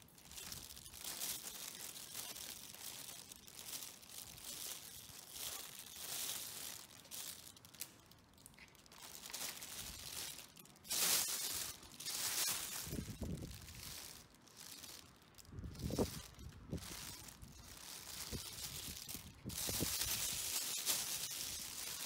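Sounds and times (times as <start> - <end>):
plastic crinkling: 0.0 - 22.0.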